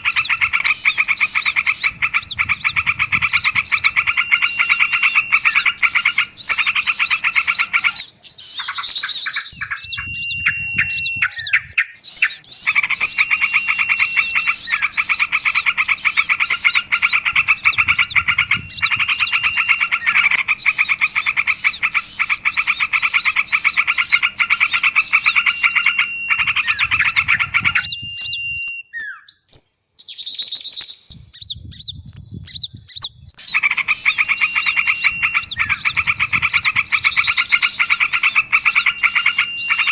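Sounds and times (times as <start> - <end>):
held whistle: 0.0 - 29.5, 31.3 - 39.9
songbirds chirping and trilling: 0.0 - 39.9.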